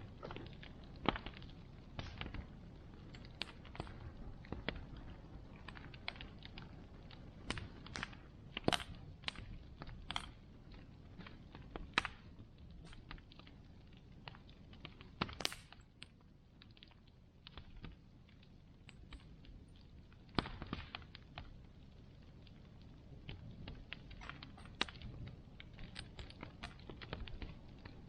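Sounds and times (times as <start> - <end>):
bonfire crackling and popping: 0.0 - 28.0
flames rushing: 0.0 - 28.0.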